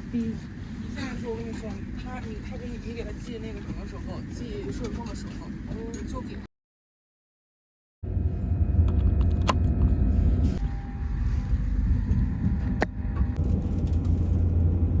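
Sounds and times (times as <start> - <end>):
train rumbling: 0.0 - 6.4, 8.0 - 15.0.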